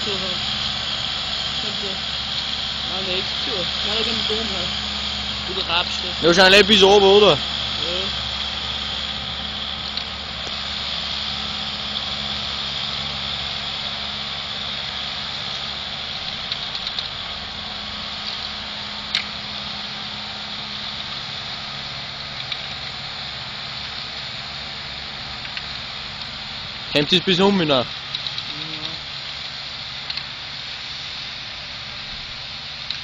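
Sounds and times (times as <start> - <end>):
distant tractor engine running: 0.0 - 33.0.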